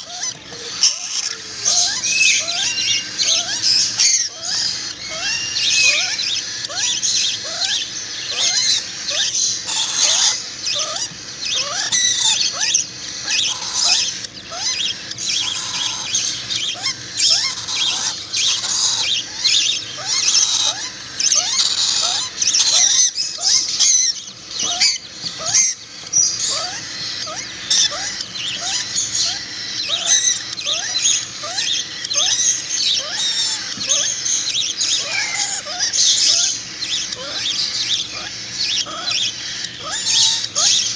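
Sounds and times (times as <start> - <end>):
young birds chirping shrilly: 0.0 - 40.9.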